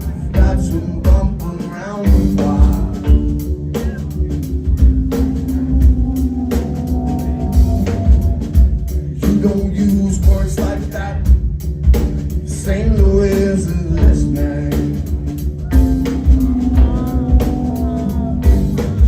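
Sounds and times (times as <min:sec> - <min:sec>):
drum kit beat: 0:00.0 - 0:19.0
rock band playing: 0:00.0 - 0:19.0.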